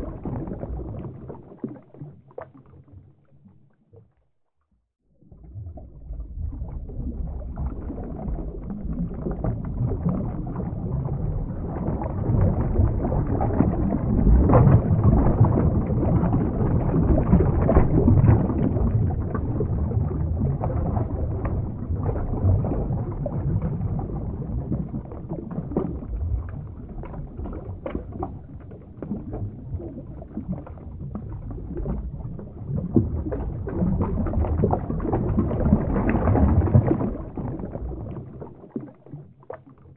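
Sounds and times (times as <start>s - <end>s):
underwater water rushing: 0.0s - 3.5s, 5.2s - 39.9s
small bubbling crackles: 0.0s - 4.6s, 5.2s - 39.9s.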